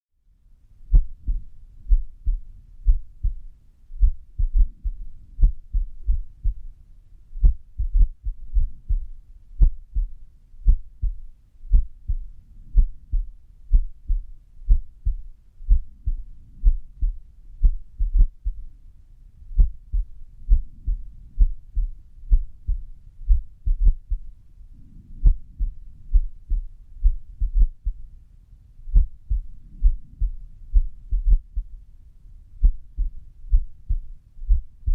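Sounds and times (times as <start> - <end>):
heartbeat thumps: 0.9 - 6.7, 7.4 - 18.7, 19.5 - 24.4, 25.2 - 28.0, 28.9 - 31.8, 32.6 - 34.9.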